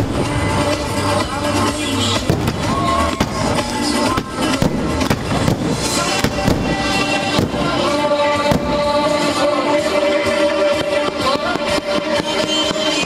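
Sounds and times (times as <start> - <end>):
fireworks bursting: 0.0 - 13.0
loud music: 0.0 - 13.0.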